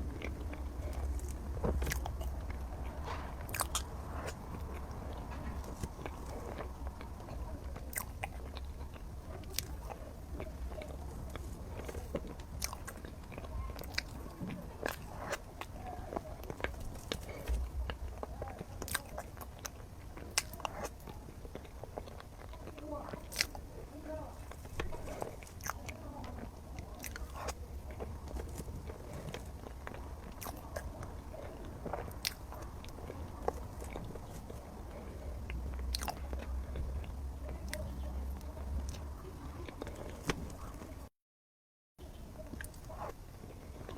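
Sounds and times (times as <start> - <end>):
person chewing: 0.0 - 41.0, 42.4 - 43.9.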